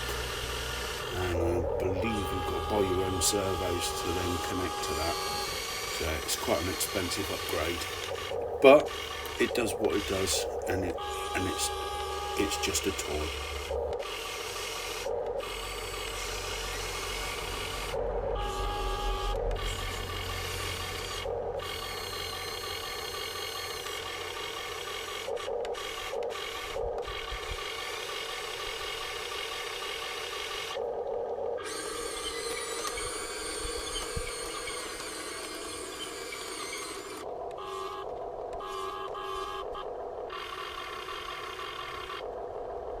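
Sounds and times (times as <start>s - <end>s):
electric motors whining: 0.0s - 30.8s, 31.6s - 42.4s.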